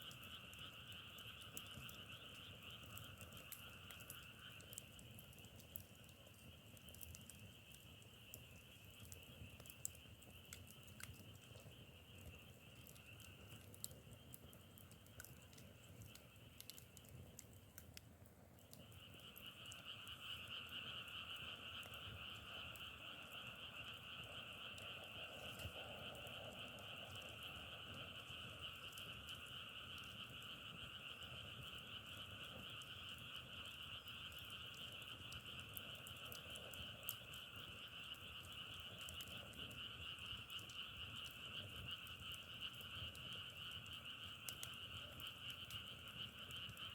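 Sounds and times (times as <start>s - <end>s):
frogs trilling: 0.0s - 17.8s, 18.6s - 46.9s.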